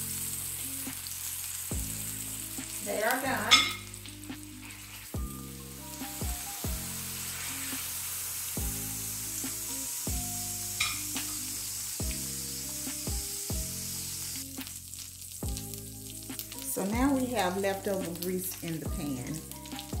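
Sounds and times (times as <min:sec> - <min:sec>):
meat sizzling in oil: 0:00.0 - 0:20.0
slow background music: 0:00.0 - 0:20.0.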